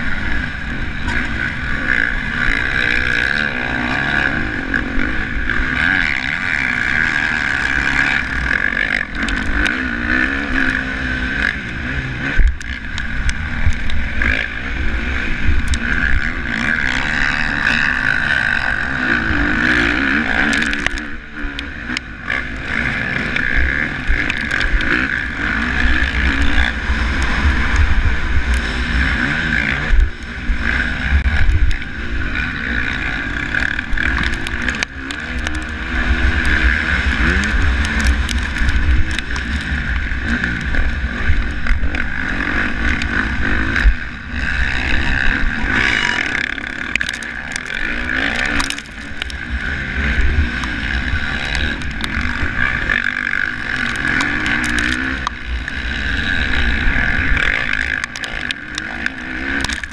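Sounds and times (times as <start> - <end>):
motocross bike engine running hard: 0.0 - 59.9
wind rumble on microphone: 0.0 - 59.9.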